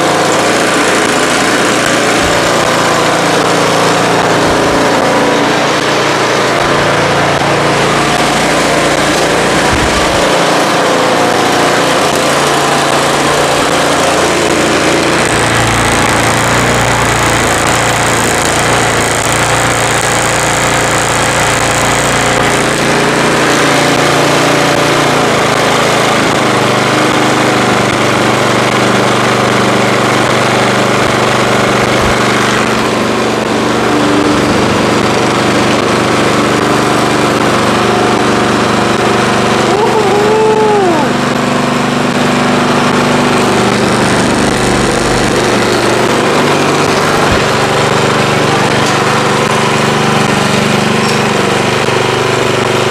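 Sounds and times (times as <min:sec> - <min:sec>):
snowblower engine running: 0:00.0 - 0:52.9.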